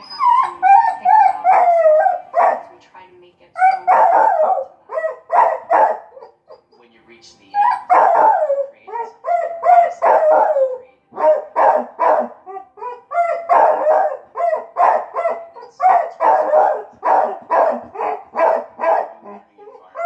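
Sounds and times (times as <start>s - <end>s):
dog barking: 0.4s - 2.8s, 3.6s - 6.2s, 7.7s - 19.4s.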